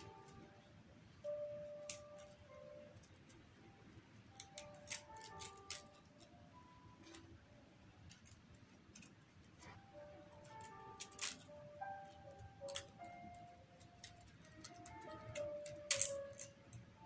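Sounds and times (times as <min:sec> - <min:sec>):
crinkling paper and wire: 0:00.0 - 0:07.4, 0:08.0 - 0:16.9
slow background music: 0:00.0 - 0:07.5, 0:09.5 - 0:17.0.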